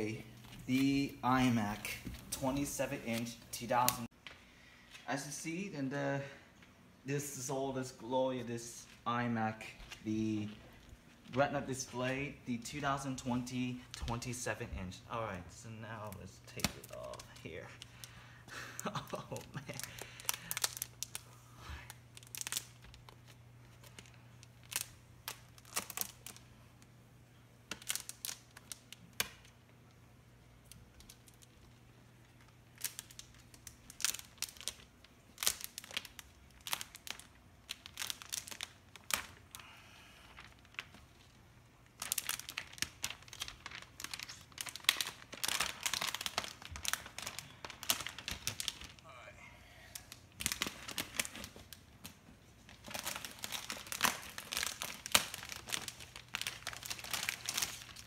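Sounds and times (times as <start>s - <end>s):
plastic film crinkling: 0.0s - 5.4s, 6.5s - 49.1s, 49.9s - 58.0s.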